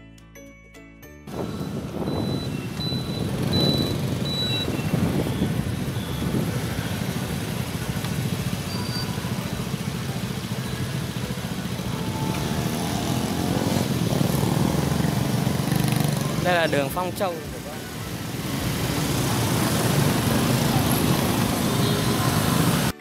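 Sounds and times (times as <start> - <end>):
motorbike engines running: 1.3 - 23.0.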